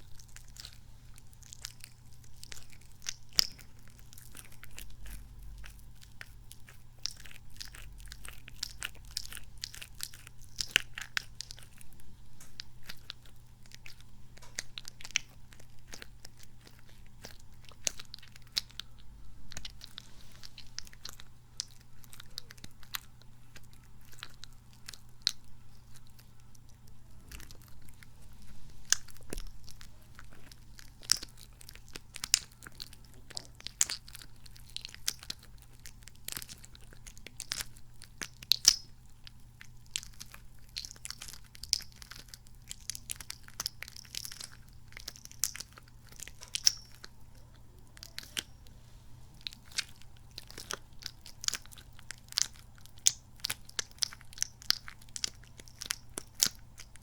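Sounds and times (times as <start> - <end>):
squishy toy squelching: 0.0 - 48.7.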